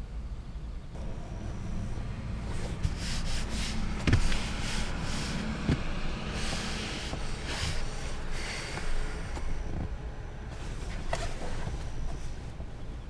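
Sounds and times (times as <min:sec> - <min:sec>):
rubbing and rustling strokes: 0:02.4 - 0:13.0.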